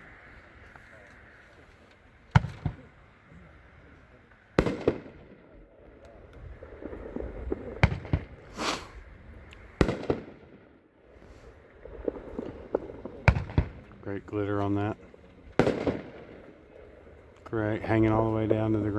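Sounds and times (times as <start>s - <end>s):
firework bangs: 2.3s - 3.2s, 4.5s - 18.9s.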